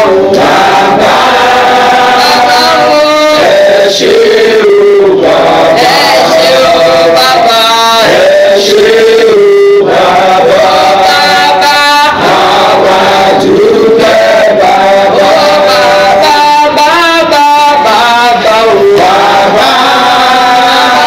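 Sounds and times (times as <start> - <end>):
voices singing a chant: 0.0 - 21.0.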